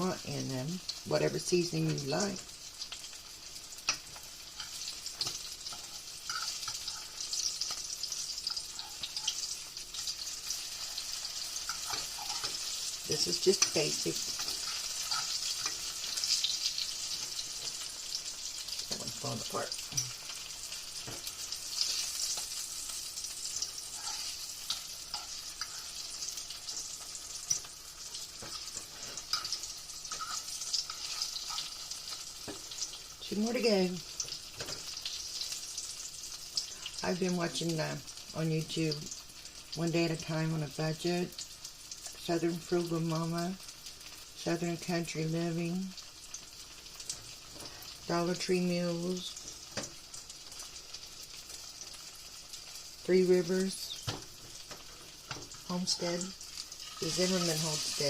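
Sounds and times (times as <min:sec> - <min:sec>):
tomato slices sizzling in frying: 0:00.0 - 0:58.0.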